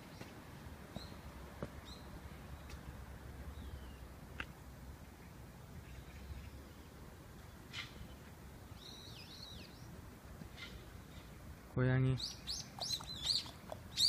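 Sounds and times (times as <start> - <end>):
birds calling faintly: 0.0 - 14.0.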